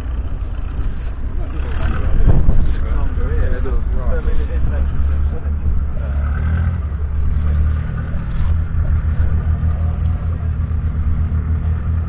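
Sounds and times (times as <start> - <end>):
tractor diesel engine rumbling: 0.0 - 12.0.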